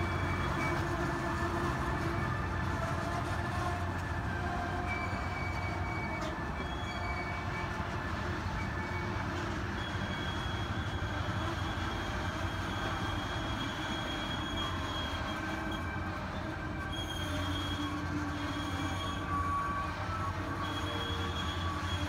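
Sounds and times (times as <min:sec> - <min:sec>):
steel wheels squealing: 0:00.0 - 0:22.0
train cars rumbling past: 0:00.0 - 0:22.0.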